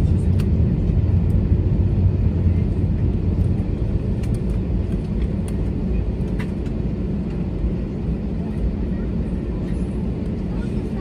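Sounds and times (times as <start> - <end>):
airplane cabin rumble while taxiing: 0.0 - 11.0.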